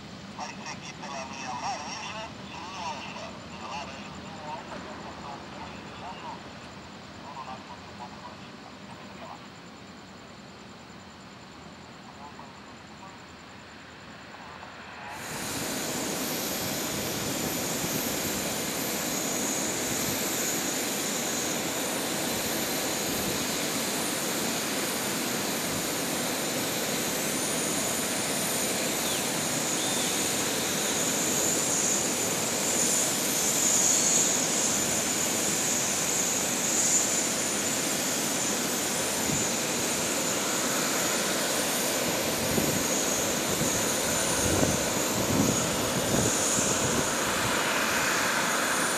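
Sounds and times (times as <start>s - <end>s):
jet engines whining while taxiing: 0.0s - 48.9s.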